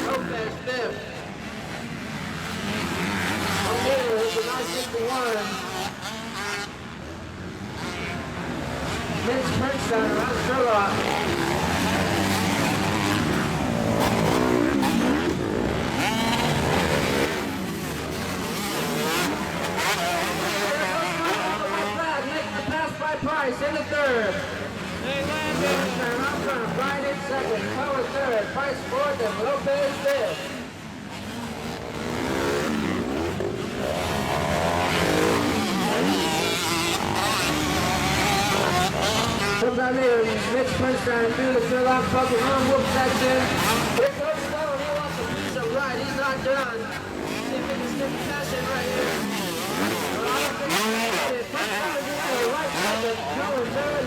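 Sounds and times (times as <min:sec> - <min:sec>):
motocross bikes revving: 0:00.0 - 0:54.0.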